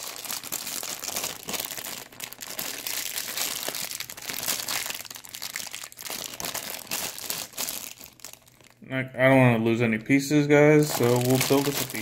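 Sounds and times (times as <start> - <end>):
plastic bags crinkling: 0.0 - 8.8, 10.8 - 12.0.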